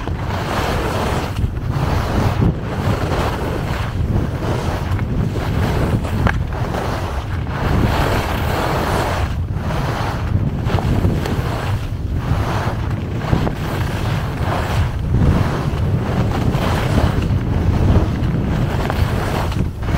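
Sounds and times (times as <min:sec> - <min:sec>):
skis scraping packed snow: 0:00.0 - 0:19.9
wind rushing over microphone: 0:00.0 - 0:19.9.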